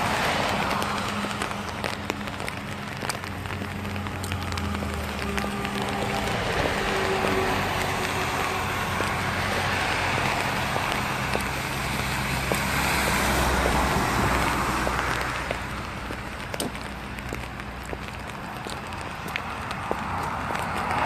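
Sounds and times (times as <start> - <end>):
raindrops ticking: 0.0 - 21.0
vehicle passing on wet street: 0.0 - 21.0.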